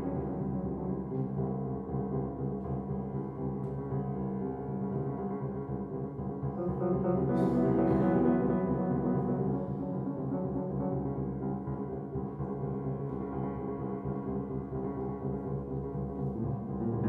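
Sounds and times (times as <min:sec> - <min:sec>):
grand piano playing low notes: 0:00.0 - 0:17.0.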